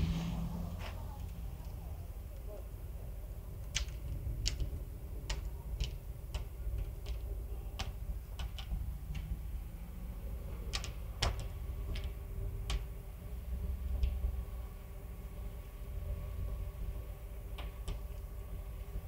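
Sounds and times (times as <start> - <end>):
low rumble: 0.0 - 17.6.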